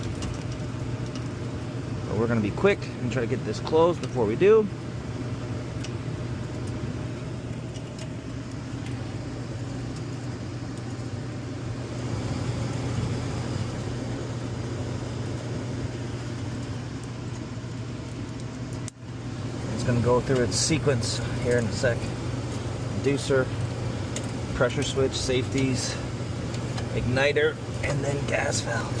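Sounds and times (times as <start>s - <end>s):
furnace blower humming: 0.0s - 29.0s.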